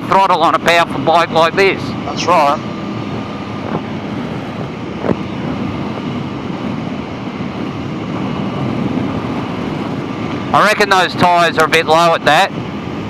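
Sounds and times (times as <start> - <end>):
motorcycle engine cruising: 0.0 - 13.0
wind rush on microphone: 0.0 - 13.0.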